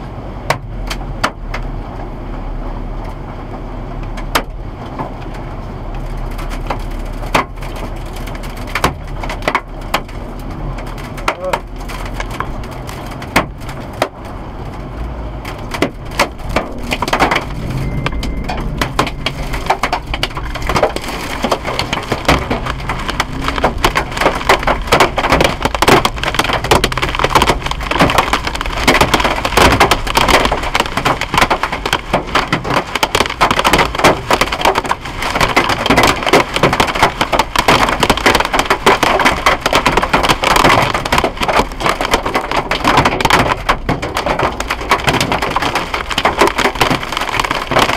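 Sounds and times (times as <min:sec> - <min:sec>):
hail clattering on car roof: 0:00.5 - 0:01.7, 0:04.1 - 0:47.9.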